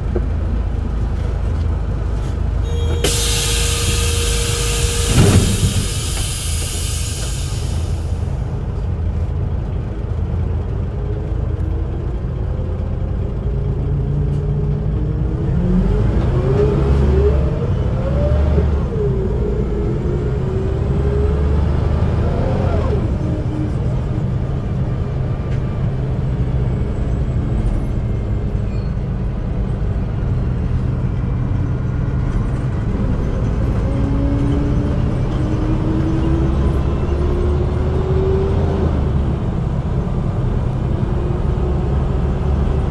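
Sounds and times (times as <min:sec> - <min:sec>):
bus engine idling: 0:00.0 - 0:15.5, 0:17.4 - 0:42.9.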